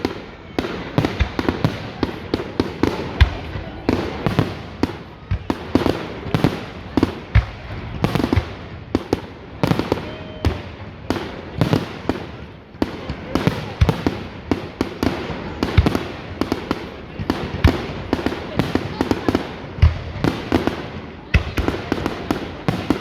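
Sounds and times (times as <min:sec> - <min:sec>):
fireworks exploding: 0:00.0 - 0:23.0.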